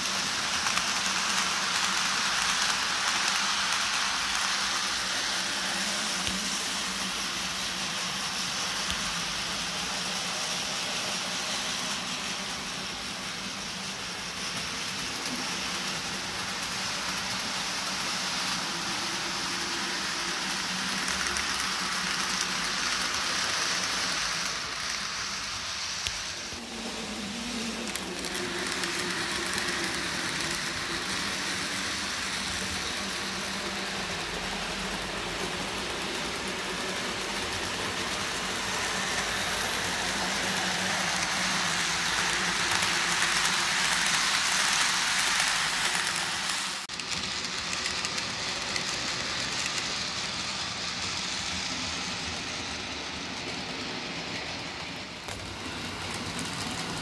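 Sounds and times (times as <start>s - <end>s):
model train rolling on track: 0.0s - 57.0s.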